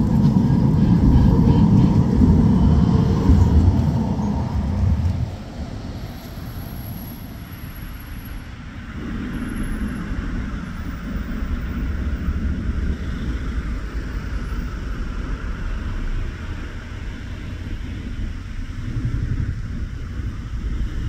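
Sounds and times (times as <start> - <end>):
tram rumbling along track: 0.0 - 21.0.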